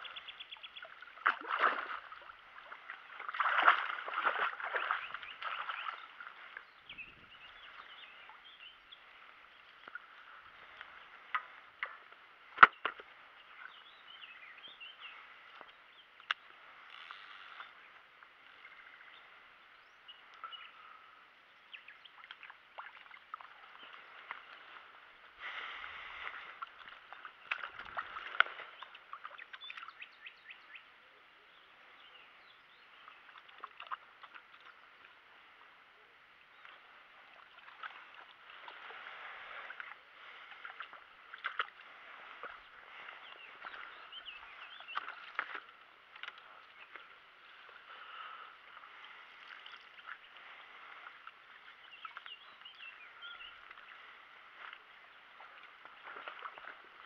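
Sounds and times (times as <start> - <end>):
shallow water splashing: 0.0 - 19.5, 20.1 - 30.6, 31.8 - 57.0.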